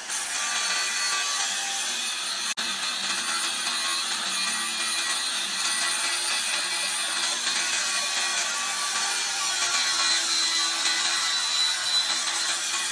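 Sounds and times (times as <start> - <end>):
angle grinder grinding steel: 0.0 - 12.9.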